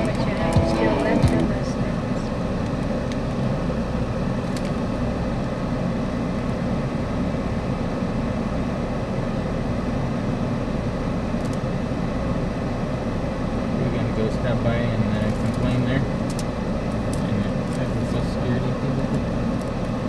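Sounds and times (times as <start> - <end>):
car idling hum: 0.0 - 20.0.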